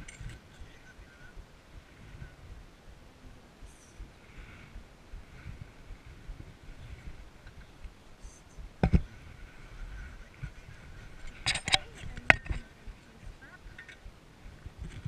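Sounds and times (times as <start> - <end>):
low wind rumble on microphone: 0.0 - 15.0.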